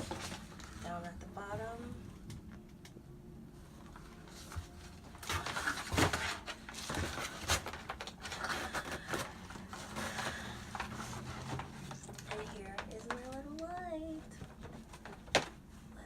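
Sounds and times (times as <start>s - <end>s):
packaging rustling and crinkling: 0.0s - 1.1s, 3.8s - 15.9s.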